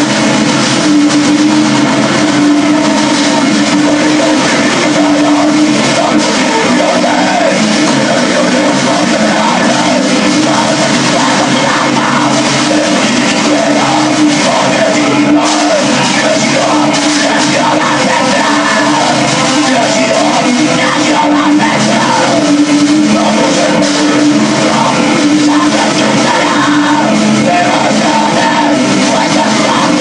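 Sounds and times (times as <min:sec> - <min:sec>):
distorted metal band: 0:00.0 - 0:30.0
harsh yelled vocals: 0:00.0 - 0:30.0.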